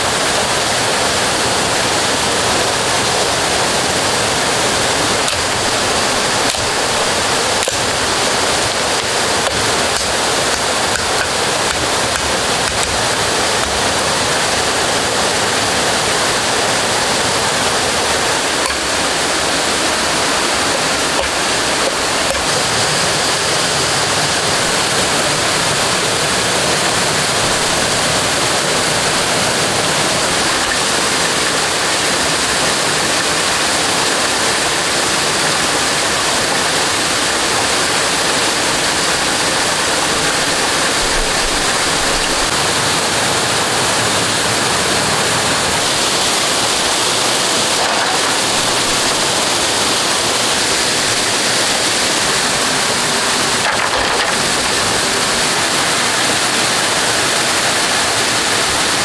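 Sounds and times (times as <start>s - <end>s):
stream water over rocks: 0.0s - 59.0s.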